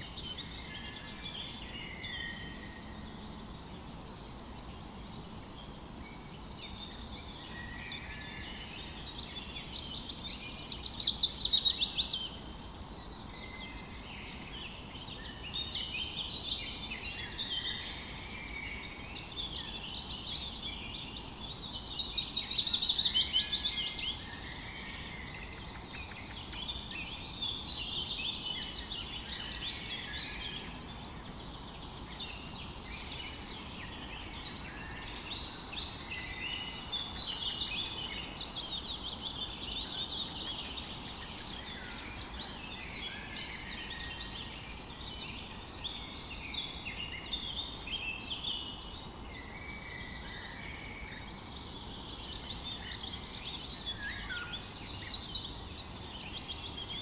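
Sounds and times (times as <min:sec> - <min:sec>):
faint outdoor background noise: 0:00.0 - 0:57.0
songbirds singing: 0:00.0 - 0:57.0.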